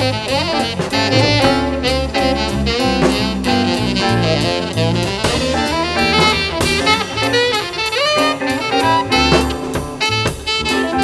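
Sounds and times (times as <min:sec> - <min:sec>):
drums and cymbals: 0:00.0 - 0:11.0
tenor saxophone melody: 0:00.0 - 0:11.0
walking bass: 0:00.0 - 0:11.0.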